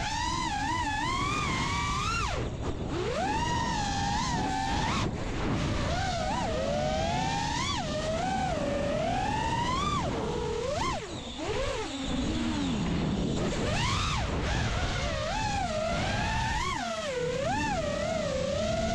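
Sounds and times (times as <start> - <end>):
drone motors whining: 0.0 - 18.9.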